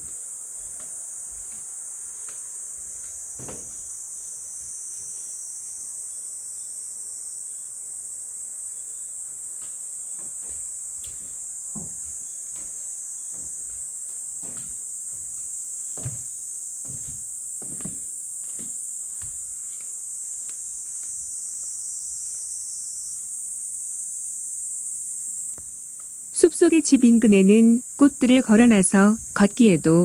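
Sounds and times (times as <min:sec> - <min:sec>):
insect chorus buzzing: 0:00.0 - 0:30.0.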